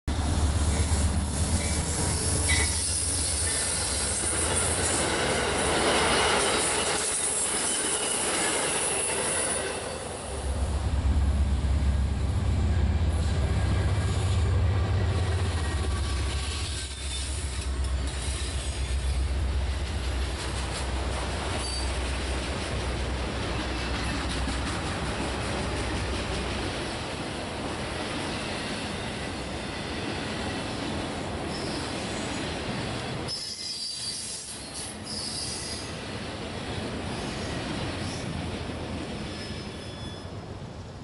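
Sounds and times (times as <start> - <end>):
passing train deep rumble: 0.0 - 41.0
freight train wheels on track: 0.1 - 41.0.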